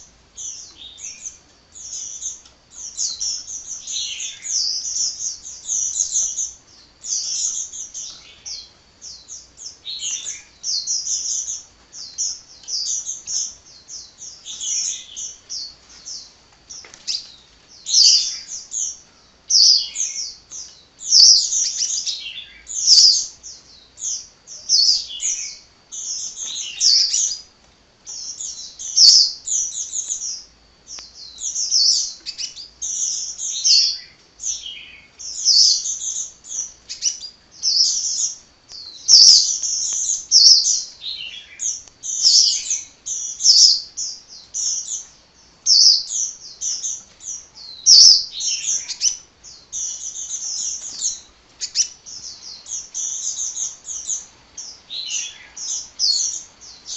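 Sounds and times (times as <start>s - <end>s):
high twittering bird song: 0.0s - 56.9s.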